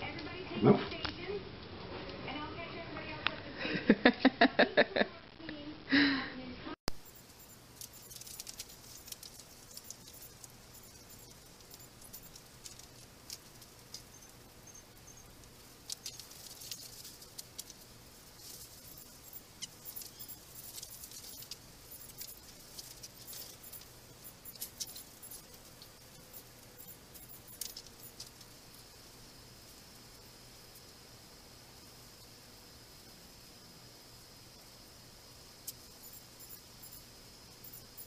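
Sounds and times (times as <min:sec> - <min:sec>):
faint high-pitched ticks and clicks: 0:06.9 - 0:38.0.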